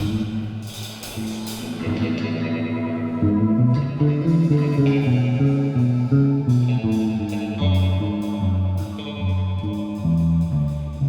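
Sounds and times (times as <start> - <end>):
bass line: 0.0 - 11.0
guitar: 0.0 - 11.0
live band music: 0.0 - 11.0.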